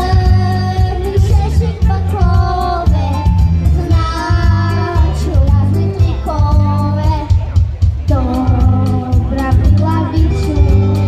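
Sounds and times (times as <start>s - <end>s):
children's choir singing pop song: 0.0s - 7.5s, 8.1s - 11.0s
backing track with bass beat: 0.0s - 11.0s.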